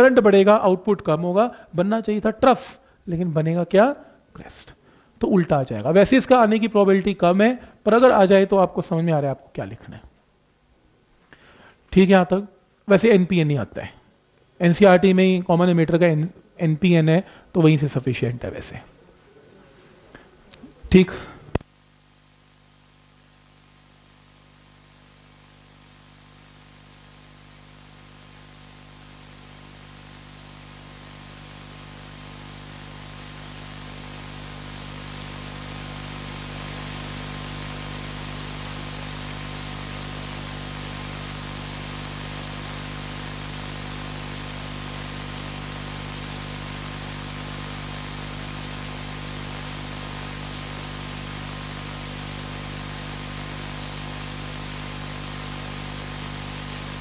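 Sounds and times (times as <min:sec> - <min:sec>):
low electrical hum: 0:00.0 - 0:57.0
static hiss: 0:00.0 - 0:57.0.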